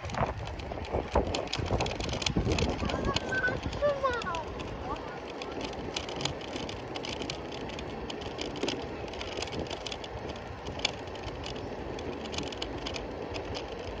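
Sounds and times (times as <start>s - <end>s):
scooter rattles and clicks: 0.0s - 14.0s
scooter rolling over pavement: 0.0s - 14.0s.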